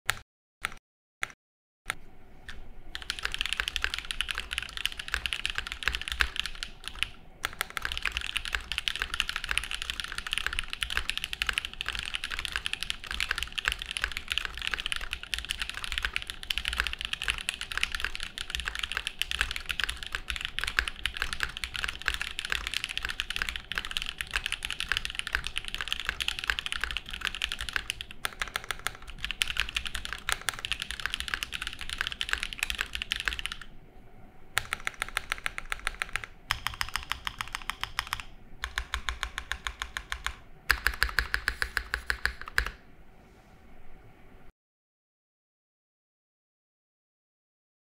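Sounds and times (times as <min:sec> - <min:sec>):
mechanical keyboard typing: 0:03.0 - 0:33.7, 0:34.6 - 0:42.8.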